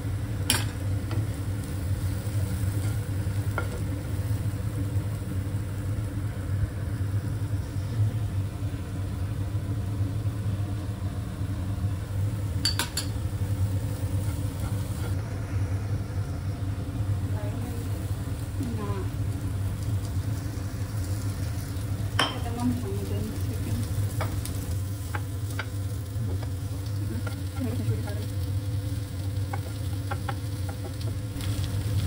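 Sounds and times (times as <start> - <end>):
low machine hum: 0.0 - 32.0
vegetables sizzling in a pan: 0.0 - 32.0.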